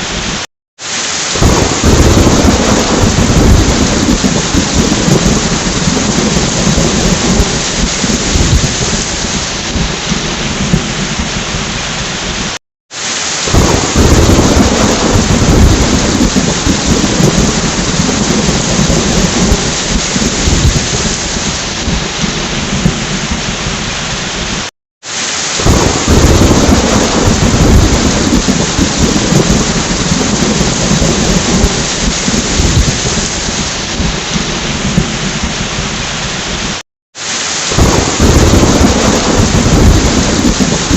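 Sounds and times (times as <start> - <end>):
heavy rain: 0.0 - 40.9
rolling thunder: 1.3 - 12.6, 13.5 - 24.7, 25.6 - 36.8, 37.7 - 40.9.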